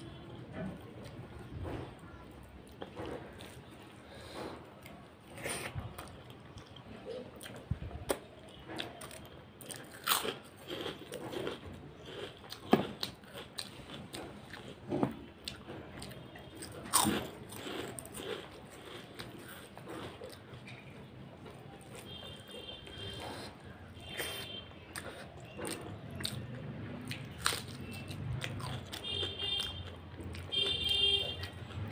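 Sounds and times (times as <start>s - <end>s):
close-up chewing: 0.4s - 31.9s.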